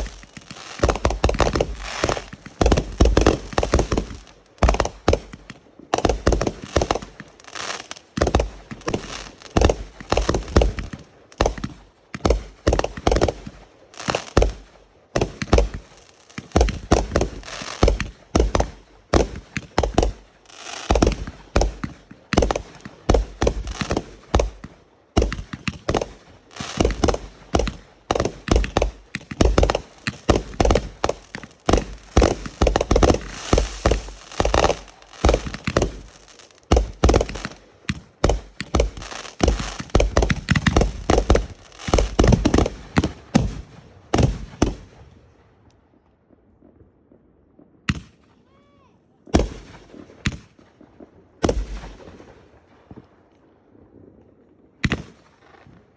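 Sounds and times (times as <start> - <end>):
fireworks crackling: 0.0 - 45.2, 49.3 - 50.4
fireworks bangs: 0.0 - 45.4, 49.3 - 53.1.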